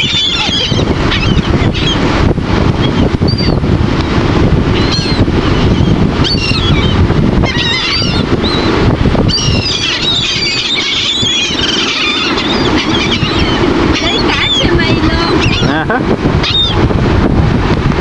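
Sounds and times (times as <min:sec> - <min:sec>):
seagulls squawking: 0:00.0 - 0:02.1, 0:02.8 - 0:03.6, 0:04.7 - 0:16.8
wind and surf rushing: 0:00.0 - 0:18.0.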